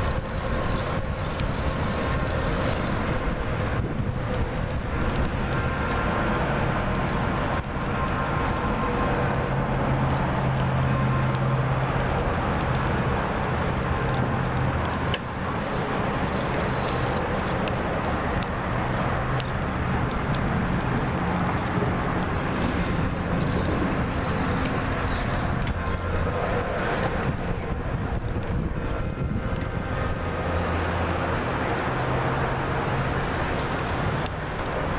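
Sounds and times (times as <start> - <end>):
car engines passing: 0.0 - 34.9.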